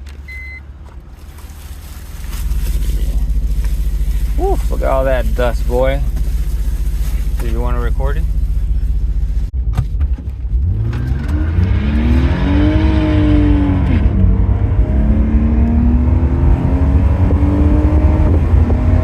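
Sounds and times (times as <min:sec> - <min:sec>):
car engine accelerating: 0:00.0 - 0:19.0
low road rumble: 0:00.0 - 0:19.0.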